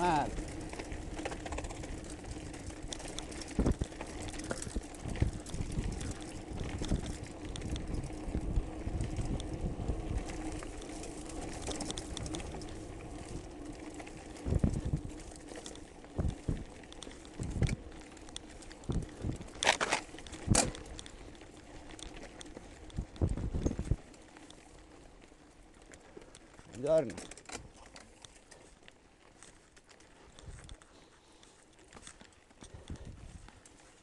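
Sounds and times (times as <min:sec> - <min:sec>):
bike knocking and rattling: 0:00.0 - 0:34.0
bike tyres rumbling on gravel: 0:00.0 - 0:34.0.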